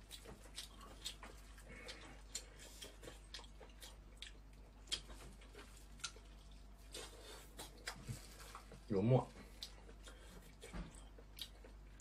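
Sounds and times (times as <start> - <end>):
person chewing and lip smacking: 0.0 - 12.0.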